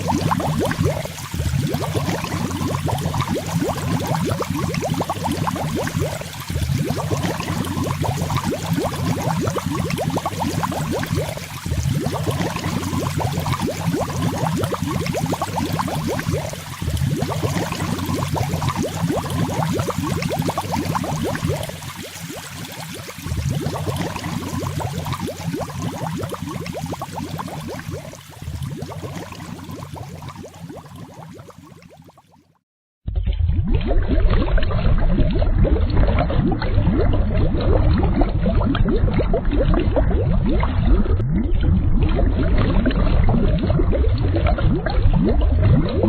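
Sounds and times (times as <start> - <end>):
underwater bubbling: 0.0 - 46.0.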